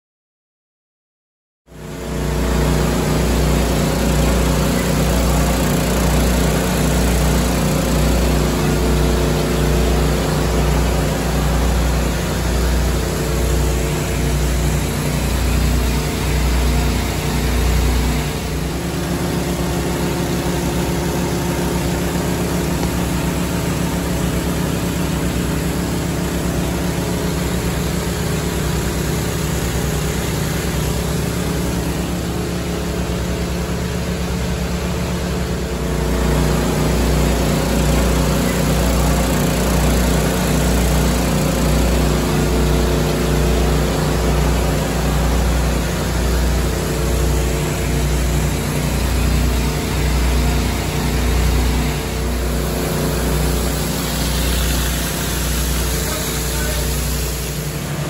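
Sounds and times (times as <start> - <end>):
small pump engines running: 1.7 - 58.0.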